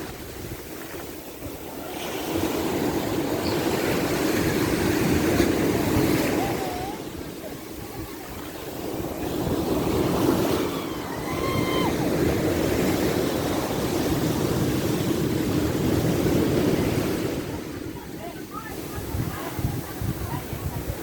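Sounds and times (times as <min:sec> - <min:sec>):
ocean surf washing in: 0:00.0 - 0:21.0.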